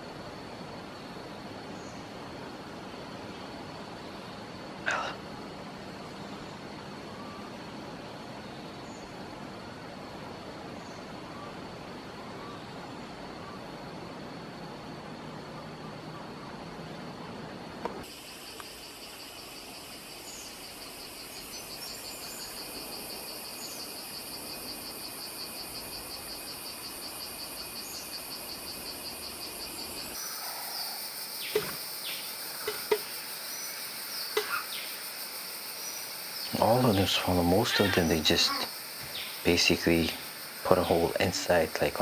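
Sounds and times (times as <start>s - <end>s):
high insect drone: 0.0s - 42.0s
pulsing insect chorus: 0.0s - 42.0s.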